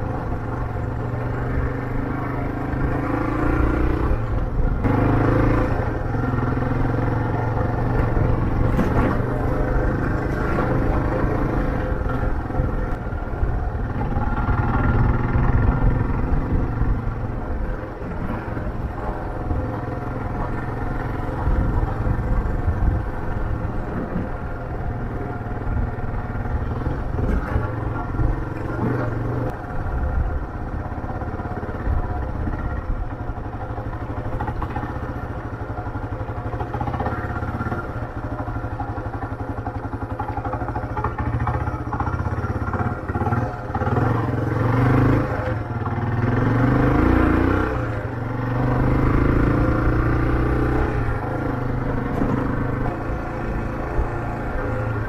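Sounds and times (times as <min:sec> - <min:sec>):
low wind rumble: 0:00.0 - 0:55.0
motorcycle engine running: 0:00.0 - 0:55.0.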